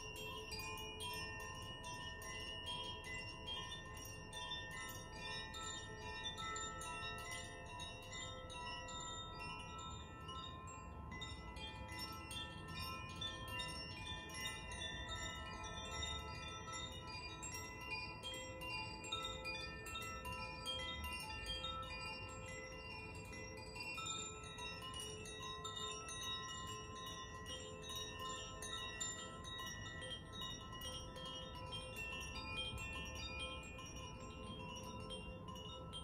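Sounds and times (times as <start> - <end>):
wind chimes ringing: 0.0 - 36.0.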